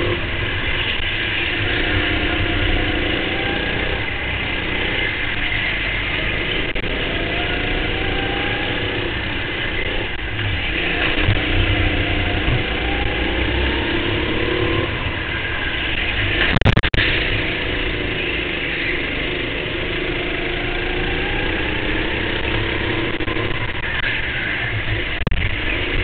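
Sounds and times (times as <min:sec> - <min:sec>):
go-kart engines racing: 0:00.0 - 0:26.0
low rumble: 0:00.0 - 0:26.0.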